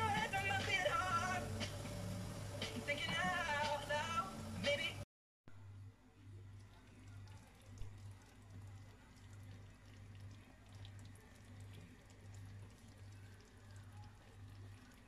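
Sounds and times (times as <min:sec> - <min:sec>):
sauce simmering in a pan: 0:00.0 - 0:04.5, 0:06.4 - 0:15.0.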